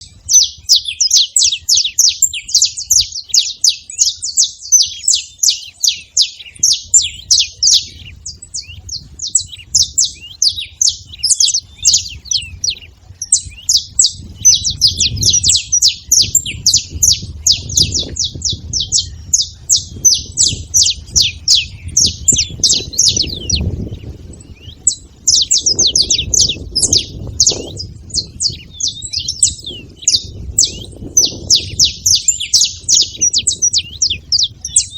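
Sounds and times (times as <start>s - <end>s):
finches chirping: 0.0s - 34.9s.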